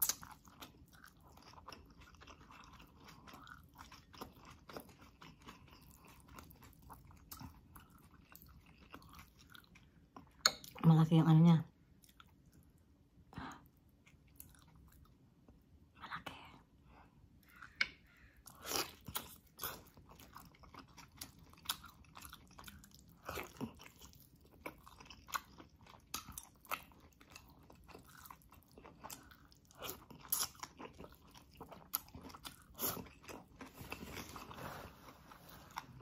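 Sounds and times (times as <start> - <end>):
chewing meat: 0.0 - 10.8, 13.9 - 15.2, 17.4 - 36.0.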